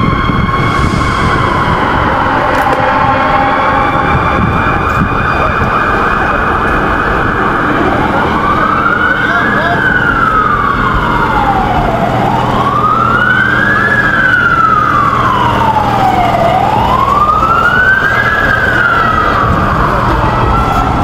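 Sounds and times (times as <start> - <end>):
emergency siren wailing: 0.0 - 21.0
low rumble of street traffic: 0.0 - 21.0.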